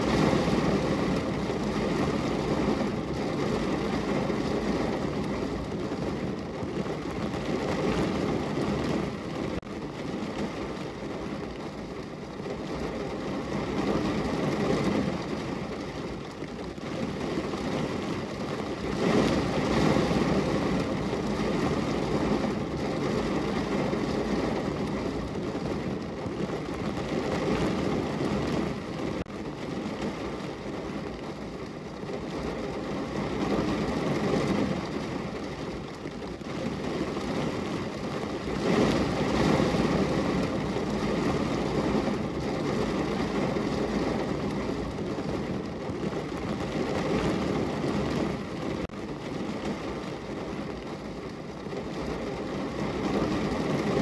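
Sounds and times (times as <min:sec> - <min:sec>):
rain on a window pane: 0:00.0 - 0:54.0.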